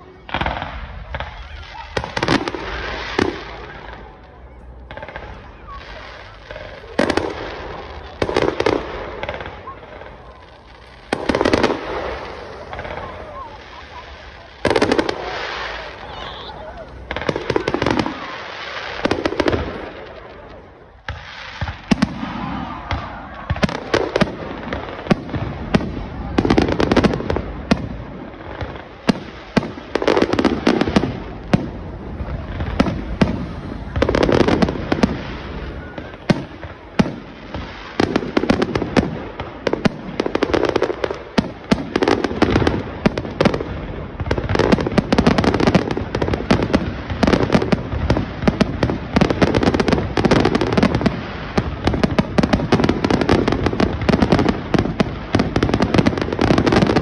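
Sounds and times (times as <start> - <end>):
fireworks bursting with bangs: 0.0 - 57.0
fireworks crackling: 0.0 - 57.0.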